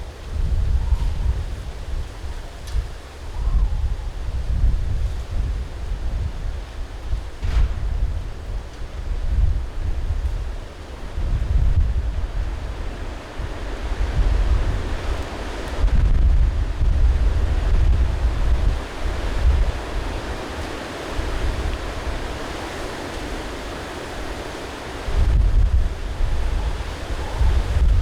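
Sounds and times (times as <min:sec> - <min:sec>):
gusty wind buffeting microphone: 0:00.0 - 0:28.0.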